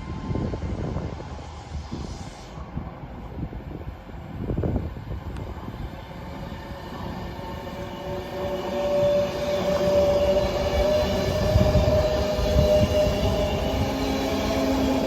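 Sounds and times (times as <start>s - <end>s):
train rumbling: 0.0s - 15.0s
train whine rising in pitch: 0.0s - 15.0s.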